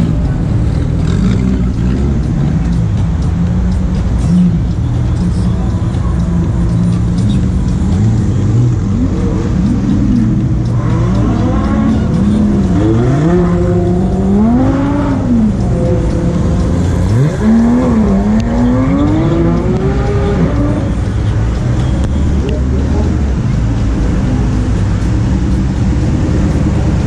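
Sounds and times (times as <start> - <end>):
sports car engines revving: 0.0 - 27.0.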